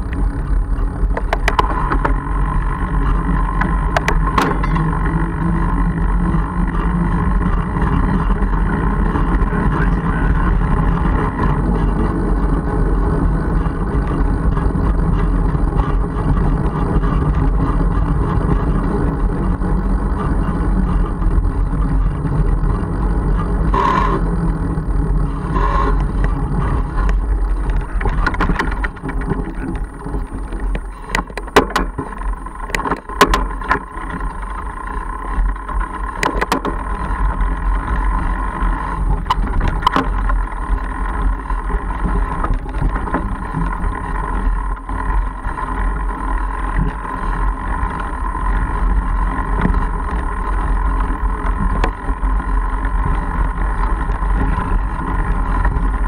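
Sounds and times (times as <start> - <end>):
bike rattles and knocks: 0.0 - 56.0
tyres rolling over dirt: 0.0 - 56.0.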